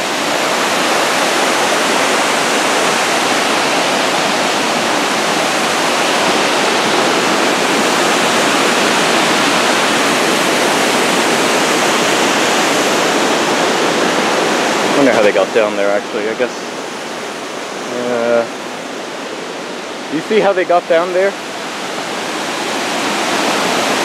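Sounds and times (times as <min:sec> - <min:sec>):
rushing waterfall: 0:00.0 - 0:24.0.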